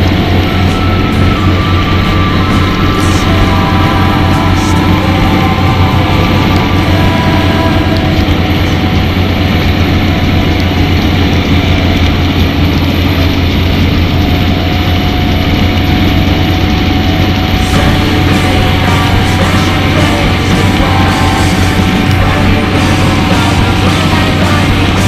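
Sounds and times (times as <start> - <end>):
diesel engine droning under load: 0.0 - 25.0.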